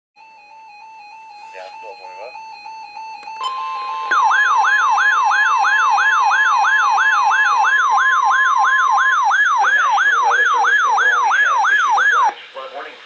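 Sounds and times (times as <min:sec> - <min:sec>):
electronic siren wailing: 0:00.2 - 0:12.3
two-tone alert signal: 0:00.2 - 0:12.3.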